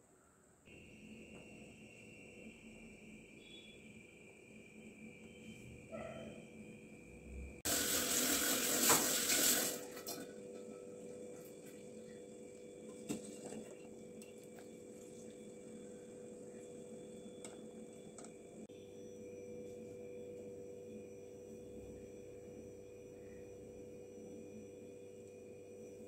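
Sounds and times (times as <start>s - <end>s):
faint steady hum: 0.0s - 8.5s, 9.7s - 26.0s.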